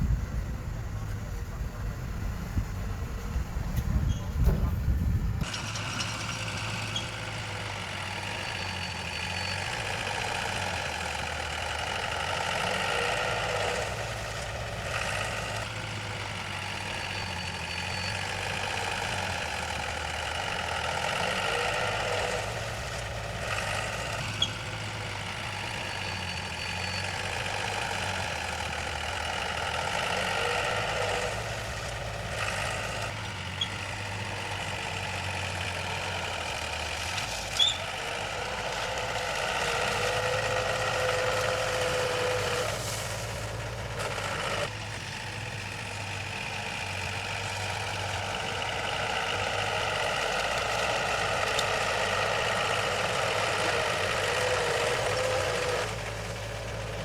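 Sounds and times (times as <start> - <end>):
heavy machinery engine running: 0.0 - 57.0.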